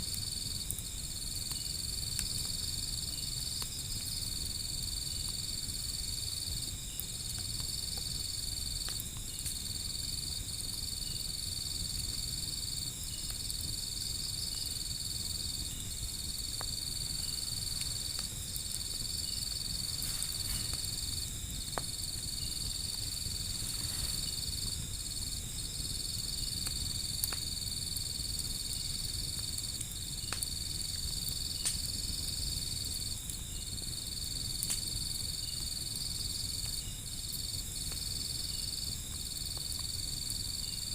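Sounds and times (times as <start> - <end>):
insects trilling: 0.0 - 40.9
wood fire crackling: 0.0 - 40.9.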